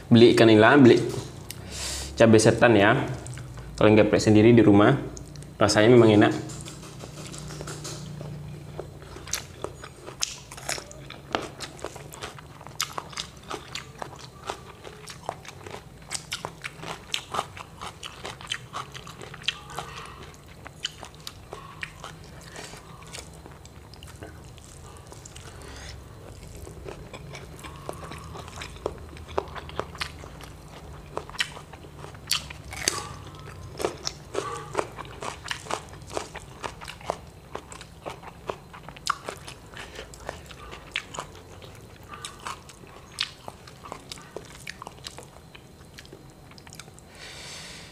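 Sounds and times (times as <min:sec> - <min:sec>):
person chewing crunchy food: 0:03.2 - 0:03.8, 0:06.5 - 0:47.9.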